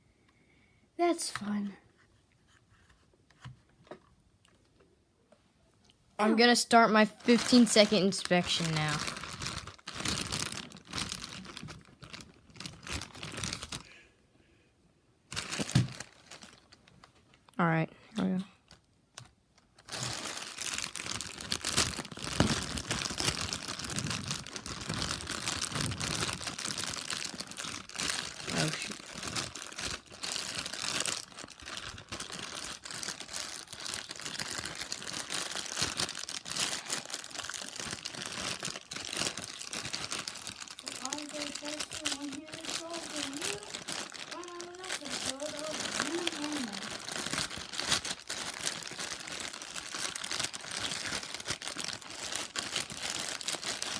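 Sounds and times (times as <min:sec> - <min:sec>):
plastic bag crinkling: 0:07.0 - 0:14.0, 0:15.3 - 0:17.3, 0:18.6 - 0:53.9.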